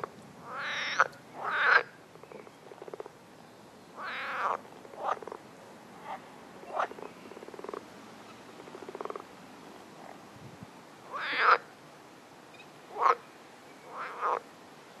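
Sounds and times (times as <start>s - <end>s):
frogs croaking: 0.0s - 3.2s, 3.9s - 10.2s, 11.0s - 11.7s, 12.5s - 14.5s.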